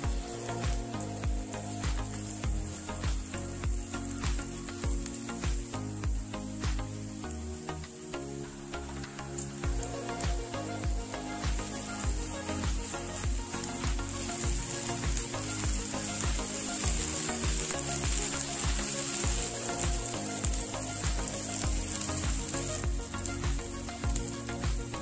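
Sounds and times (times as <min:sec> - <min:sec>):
background music with beat: 0:00.0 - 0:25.0
food sizzling in a pan: 0:00.0 - 0:25.0.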